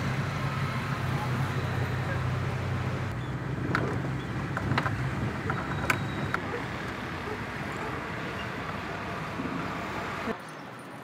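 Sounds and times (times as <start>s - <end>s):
road and traffic rumble: 0.0s - 11.0s.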